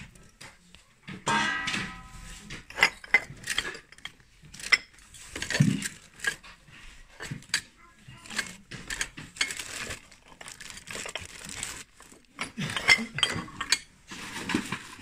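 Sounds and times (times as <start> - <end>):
porcelain and glassware clinking: 1.1 - 14.7.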